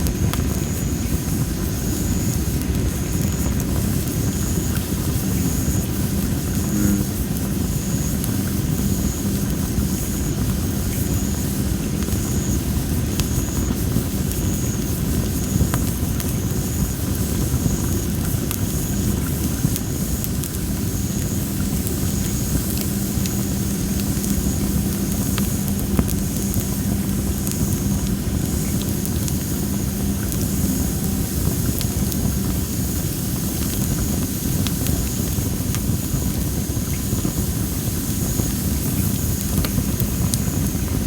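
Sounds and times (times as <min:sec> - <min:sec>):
campfire burning: 0:00.0 - 0:41.0
fire crackling and popping: 0:00.0 - 0:41.0.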